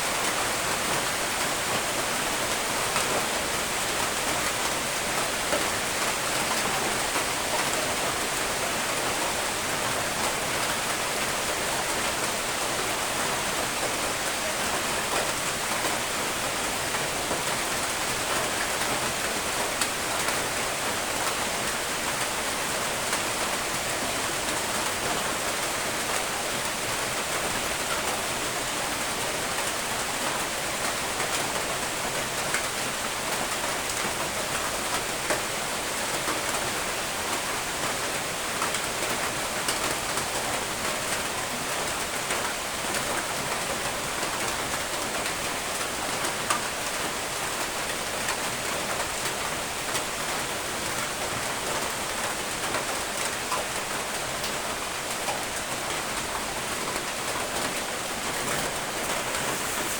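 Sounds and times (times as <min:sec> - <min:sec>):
steady rain on surfaces: 0:00.0 - 0:59.9.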